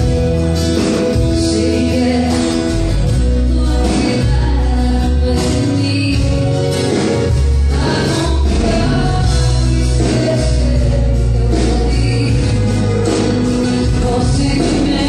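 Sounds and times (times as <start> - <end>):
heavy pulsing bass: 0.0 - 15.0
live band with singing: 0.0 - 15.0.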